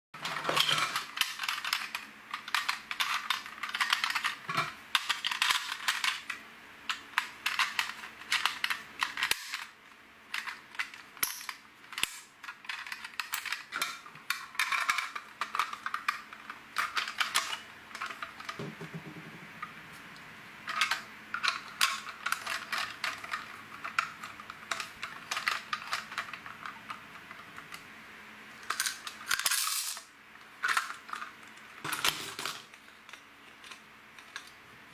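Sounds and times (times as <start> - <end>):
plastic pieces clicking and rattling: 0.2 - 18.9, 20.6 - 27.8, 28.6 - 34.6.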